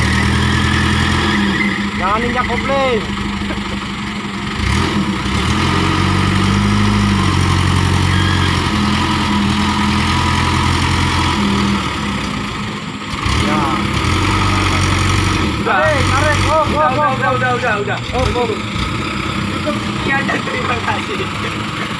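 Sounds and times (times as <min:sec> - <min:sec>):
truck engine working hard: 0:00.0 - 0:21.9.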